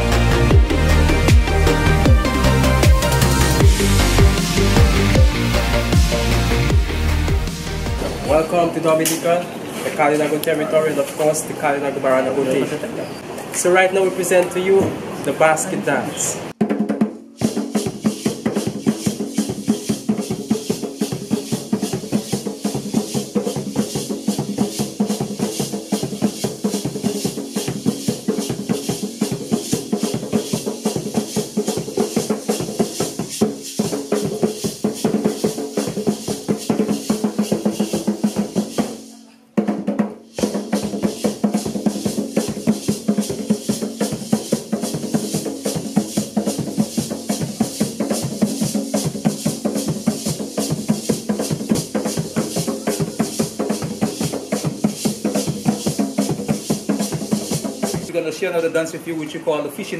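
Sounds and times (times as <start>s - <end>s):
hand drums fast rhythm: 0.0s - 8.6s, 16.6s - 58.1s.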